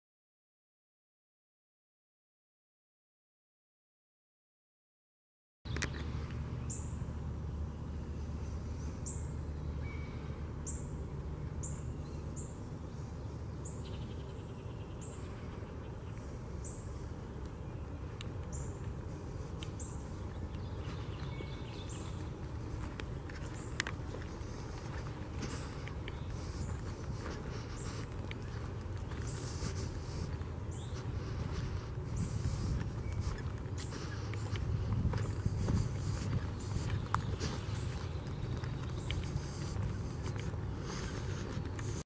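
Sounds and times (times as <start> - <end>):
steady low rumble: 5.9 - 42.0.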